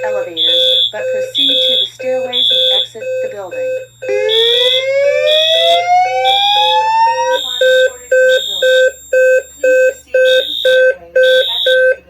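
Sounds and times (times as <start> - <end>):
fire alarm horns pulsing: 0.0 - 12.0.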